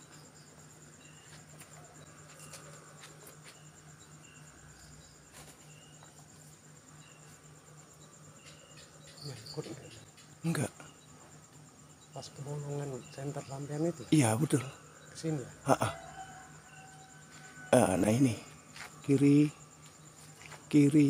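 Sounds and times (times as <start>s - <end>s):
night insects chirring: 0.0s - 21.0s.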